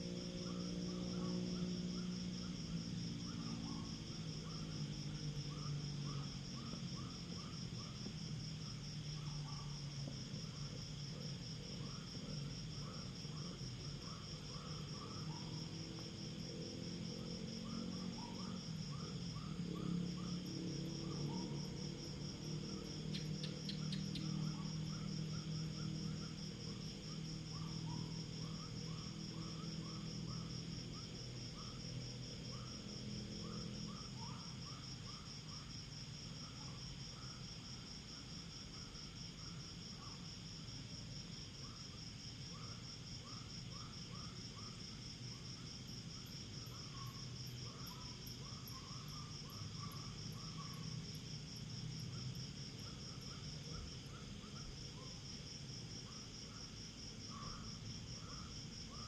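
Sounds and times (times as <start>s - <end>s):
crickets trilling: 0.0s - 59.0s
lower insect call chirping: 0.0s - 59.0s.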